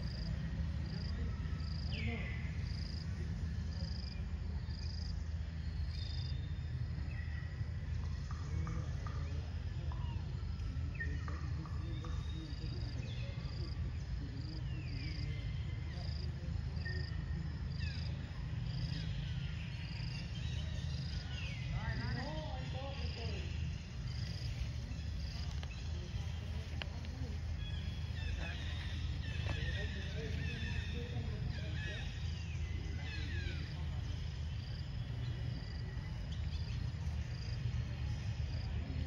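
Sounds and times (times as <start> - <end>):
insects chirping: 0.0 - 39.0
steady low rumble: 0.0 - 39.0.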